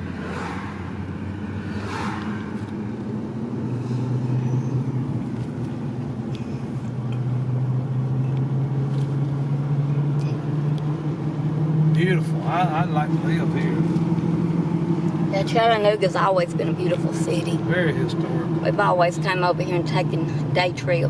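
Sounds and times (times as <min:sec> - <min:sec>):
car engine and tyre hum: 0:00.0 - 0:21.0.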